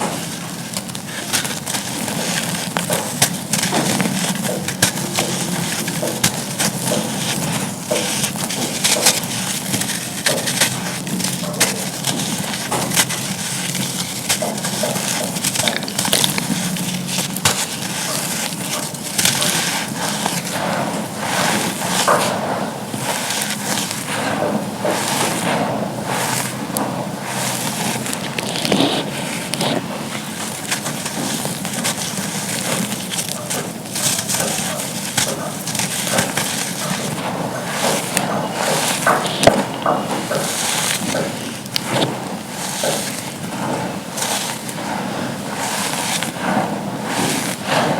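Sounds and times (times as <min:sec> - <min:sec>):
charcoal crunching and crackling: 0:00.0 - 0:47.9.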